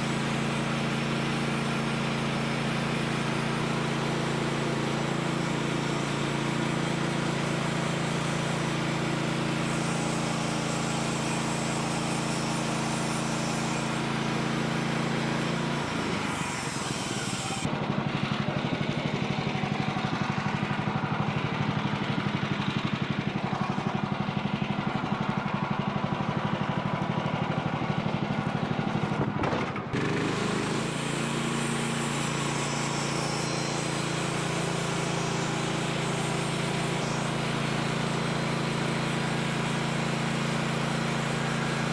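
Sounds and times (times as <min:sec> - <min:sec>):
sawmill gas engine running: 0:00.0 - 0:41.9.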